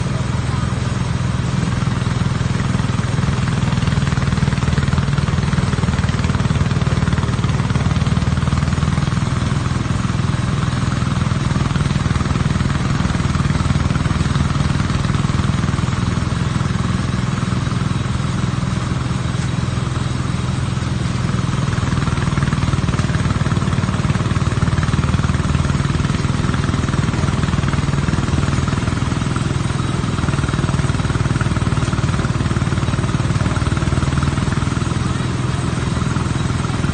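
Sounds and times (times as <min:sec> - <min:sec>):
harvester engine running: 0:00.0 - 0:36.9.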